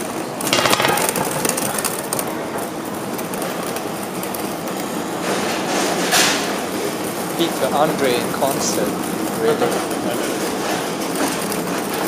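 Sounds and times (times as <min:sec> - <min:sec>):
idling train running noise: 0:00.0 - 0:12.0
suitcase wheels rattling on tarmac: 0:00.0 - 0:12.0.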